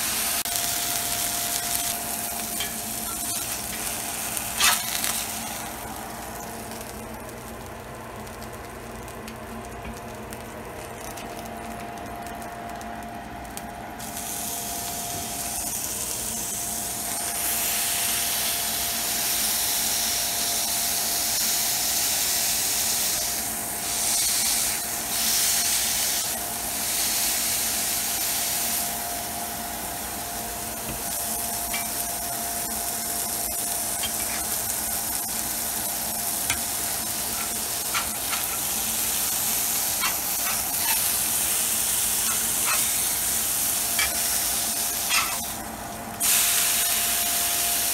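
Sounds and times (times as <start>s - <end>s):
meat sizzling in a skillet: 0.0s - 11.6s, 14.0s - 47.9s.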